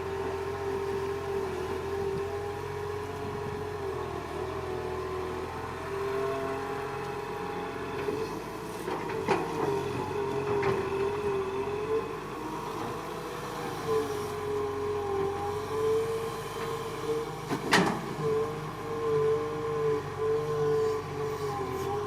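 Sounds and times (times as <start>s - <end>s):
excavator drone with whine: 0.0s - 22.0s.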